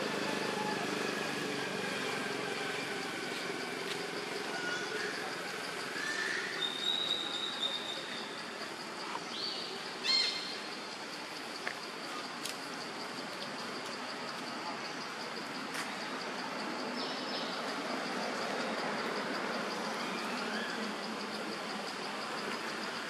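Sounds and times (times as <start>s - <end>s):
constant high hum: 0.0s - 23.0s
steady background hiss: 0.0s - 23.0s.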